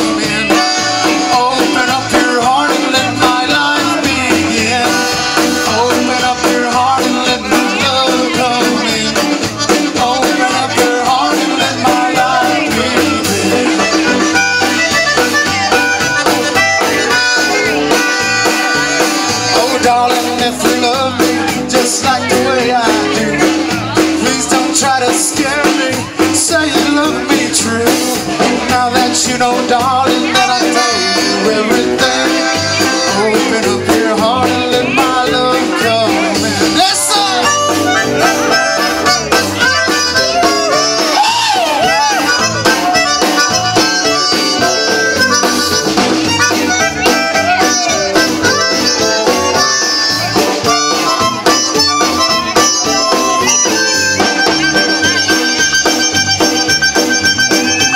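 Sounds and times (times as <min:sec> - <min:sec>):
button accordion: 0:00.0 - 0:57.9
live band playing: 0:00.0 - 0:57.9.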